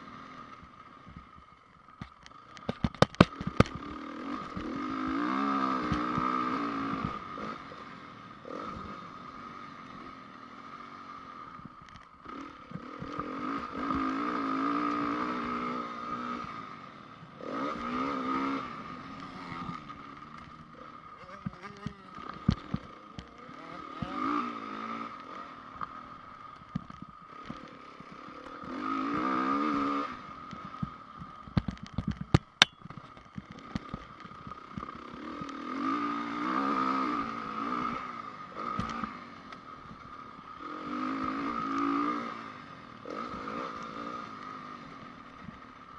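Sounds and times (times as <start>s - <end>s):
motocross bike engine revving: 2.6s - 31.6s, 32.5s - 45.9s.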